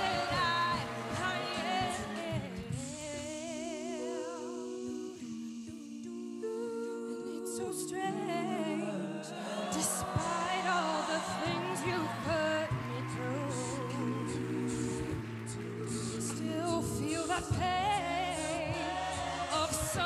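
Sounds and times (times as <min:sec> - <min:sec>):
a cappella group singing: 0:00.0 - 0:20.0.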